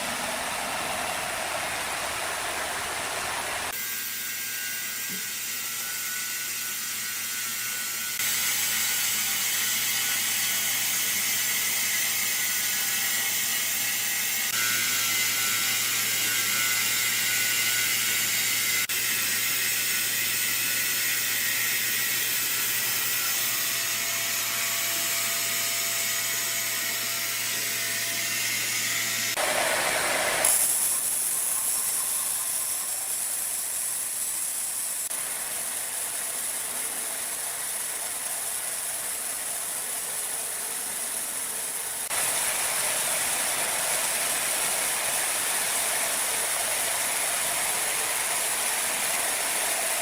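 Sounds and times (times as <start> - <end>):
woodworking machinery whirring: 0.0 - 50.0.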